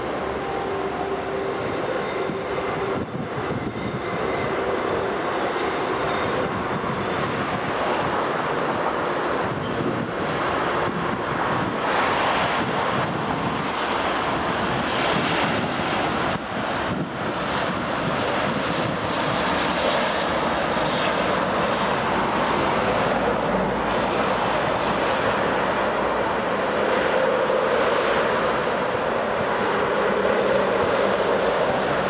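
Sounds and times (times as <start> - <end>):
jet engine roar: 0.0 - 32.0
wind buffeting microphone: 0.0 - 32.0.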